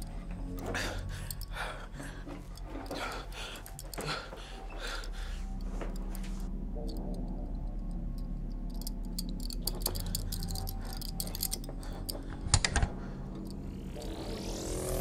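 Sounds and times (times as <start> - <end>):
rapid light clicking and rattling: 0.0 - 13.7
low steady drone: 0.0 - 15.0.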